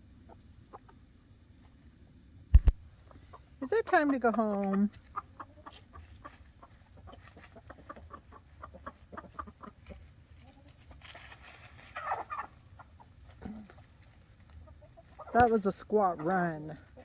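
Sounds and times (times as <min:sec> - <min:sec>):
chickens clucking softly: 0:00.0 - 0:17.0.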